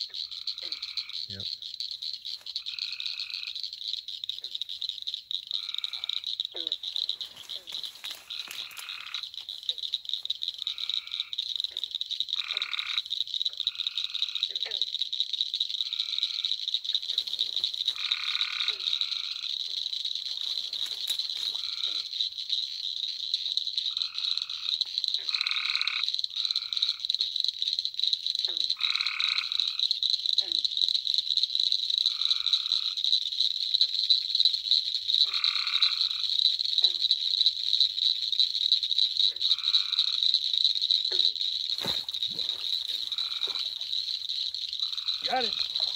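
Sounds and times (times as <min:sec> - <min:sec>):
frogs trilling calls: 0:00.0 - 0:45.9.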